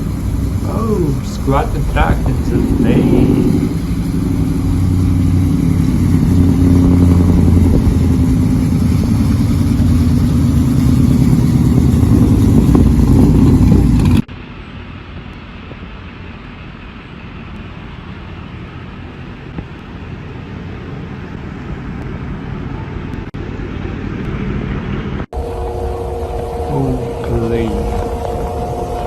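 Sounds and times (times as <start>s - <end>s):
truck exhaust engine drone: 0.0s - 24.7s, 25.3s - 29.0s
road and wind noise: 0.0s - 29.0s.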